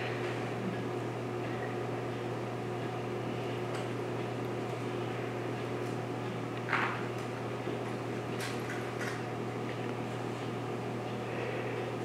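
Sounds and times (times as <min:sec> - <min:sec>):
projector fan hum: 0:00.0 - 0:12.0.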